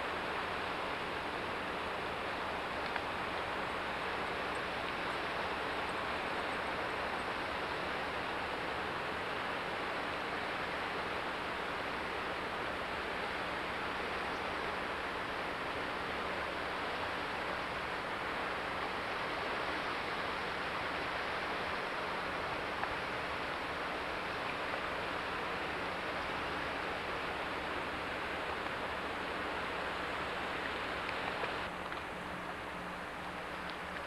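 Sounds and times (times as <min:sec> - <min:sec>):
water cascading over rocks: 0:00.0 - 0:34.0.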